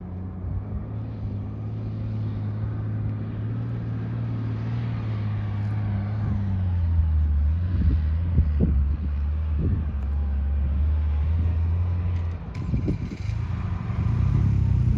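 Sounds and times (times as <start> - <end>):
vehicle engine droning: 0.0 - 14.9.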